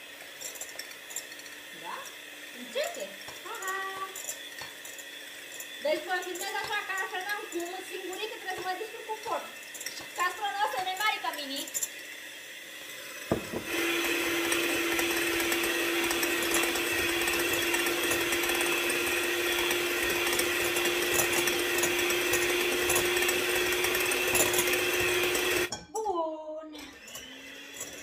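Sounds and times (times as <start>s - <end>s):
electric mixer humming: 0.0s - 25.7s, 26.8s - 28.0s.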